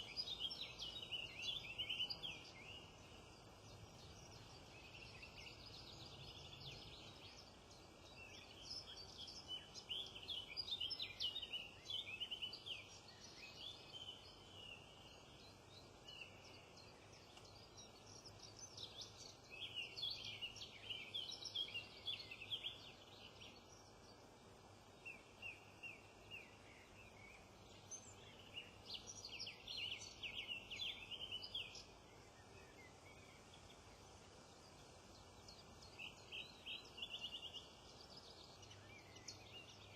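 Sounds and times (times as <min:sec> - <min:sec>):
songbirds singing and twittering: 0:00.0 - 0:39.9.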